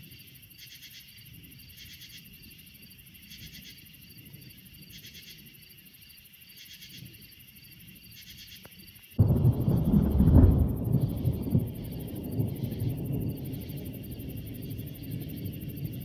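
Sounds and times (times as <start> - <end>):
high insect trill: 0.0 - 16.0
insect rasping call: 0.1 - 16.0.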